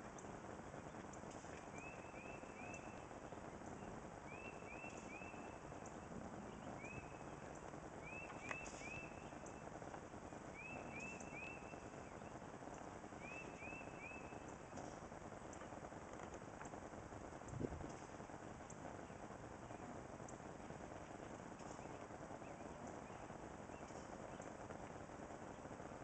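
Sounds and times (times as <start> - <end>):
songbird chirping: 0.0 - 16.7, 17.4 - 25.9
faint steady background noise: 0.0 - 26.0.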